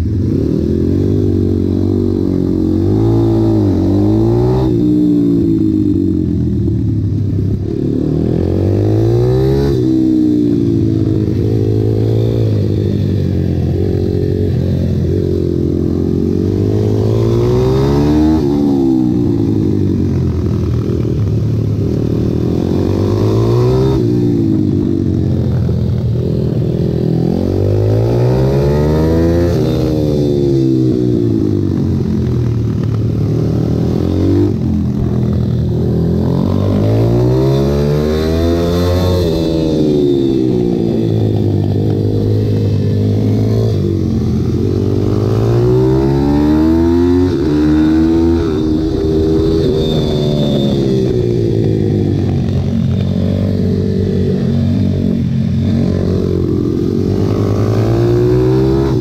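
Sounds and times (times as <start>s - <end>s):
motorbike engine revving: 0.0s - 59.0s.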